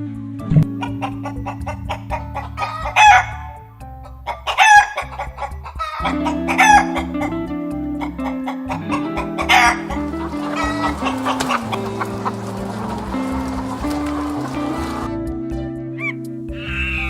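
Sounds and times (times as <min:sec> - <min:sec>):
background music with beat: 0:00.0 - 0:17.0
chicken squawking: 0:00.8 - 0:07.4, 0:08.0 - 0:15.1.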